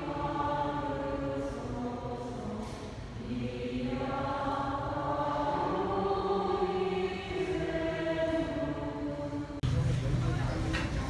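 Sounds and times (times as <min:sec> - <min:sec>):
choir chanting: 0:00.0 - 0:09.6.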